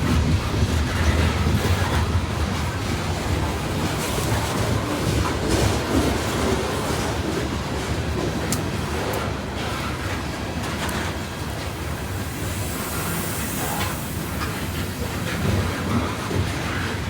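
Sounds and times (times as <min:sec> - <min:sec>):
train wheels rumbling on track: 0:00.0 - 0:17.0
rail joint clicks: 0:03.0 - 0:16.9.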